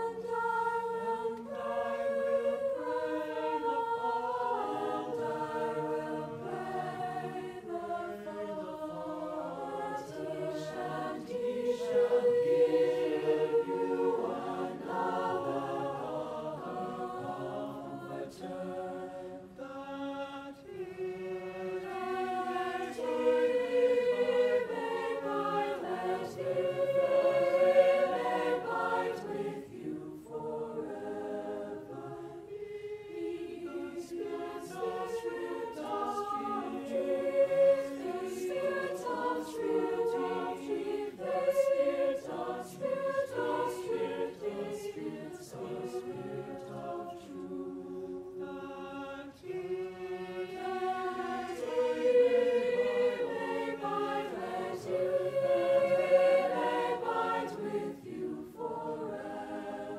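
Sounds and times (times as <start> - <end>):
mixed-voice choir singing: 0.0 - 59.9.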